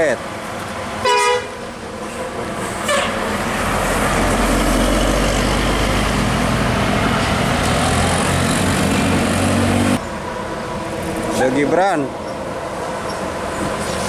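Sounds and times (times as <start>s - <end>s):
tyre noise on road: 0.2s - 14.0s
diesel coach engine passing: 0.8s - 14.0s.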